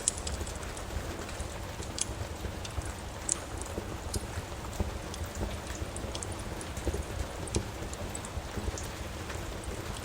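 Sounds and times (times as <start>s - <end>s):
steady rain: 0.0s - 10.0s
wood fire crackling: 0.0s - 10.0s.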